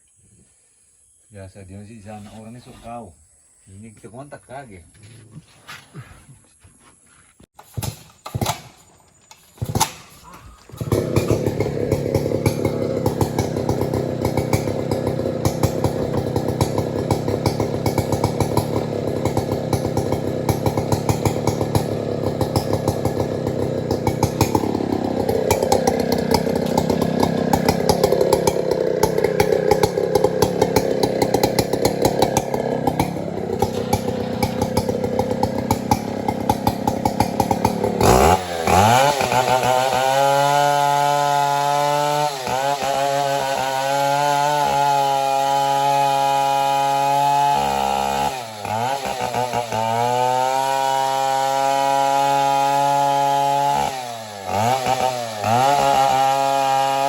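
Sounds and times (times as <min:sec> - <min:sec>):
chainsaw running and revving: 0:09.5 - 0:57.0.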